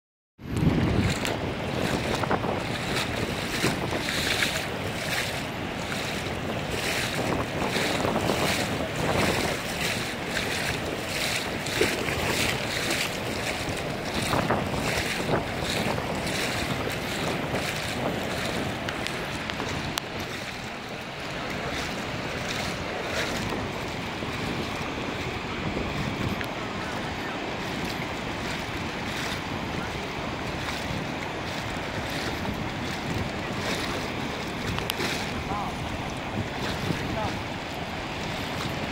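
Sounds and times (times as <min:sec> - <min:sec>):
river flowing and splashing: 0:00.4 - 0:38.9
wind buffeting microphone: 0:00.4 - 0:38.9.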